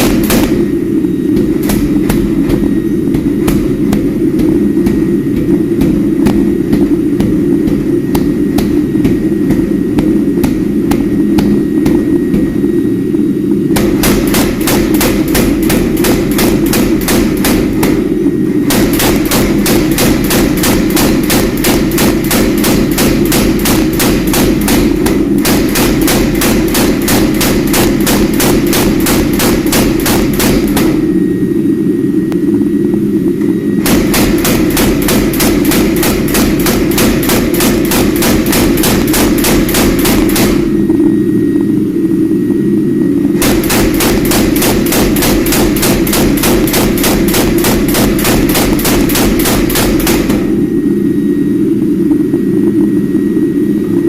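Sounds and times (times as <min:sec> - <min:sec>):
steady low roar: 0:00.0 - 0:53.0.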